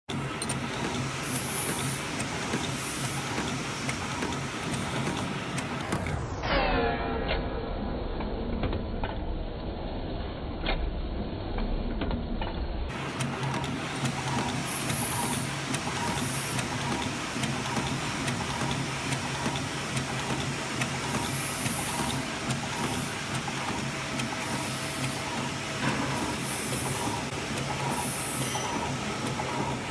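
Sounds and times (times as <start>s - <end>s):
rapid mechanical clicking: 0.1s - 6.2s, 11.6s - 29.9s
machine motor hum: 0.1s - 6.4s, 7.2s - 29.9s.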